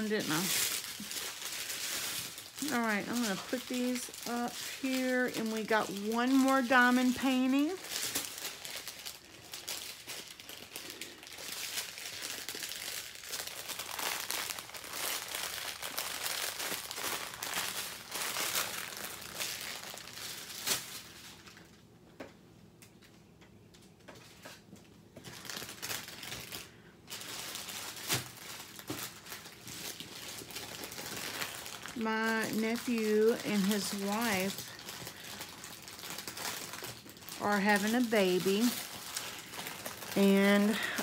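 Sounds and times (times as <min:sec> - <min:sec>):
plastic bags crinkling: 0:00.0 - 0:21.9, 0:23.8 - 0:41.0.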